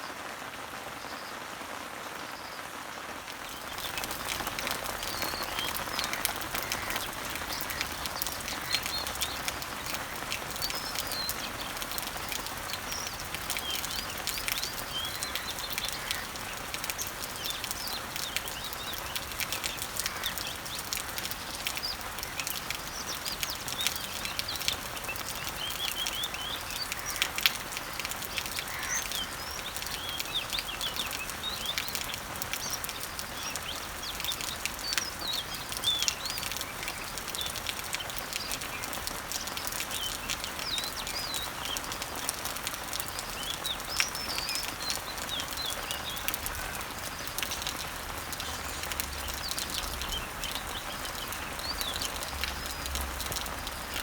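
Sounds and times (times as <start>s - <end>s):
rain on leaves: 0.0s - 54.0s
small birds chirping: 2.2s - 54.0s.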